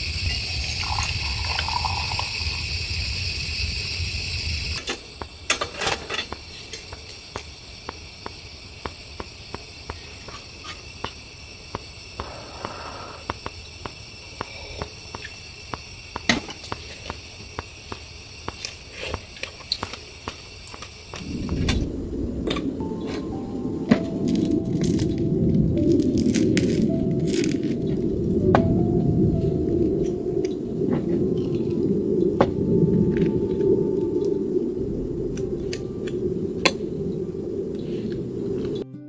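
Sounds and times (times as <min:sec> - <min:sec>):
steady hiss: 0:00.0 - 0:38.8
wood crackling in stove: 0:00.0 - 0:38.9.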